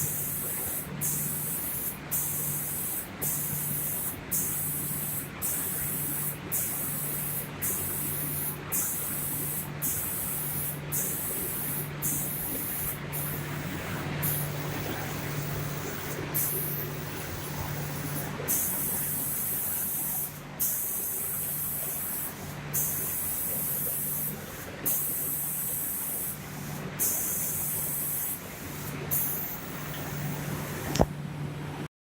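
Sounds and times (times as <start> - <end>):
spray guns hissing in bursts: 0.0 - 30.9
low machine hum: 0.0 - 31.9.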